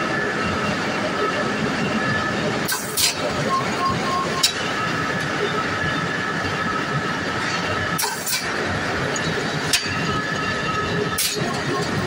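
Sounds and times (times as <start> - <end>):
machine whining tones: 0.0 - 12.0.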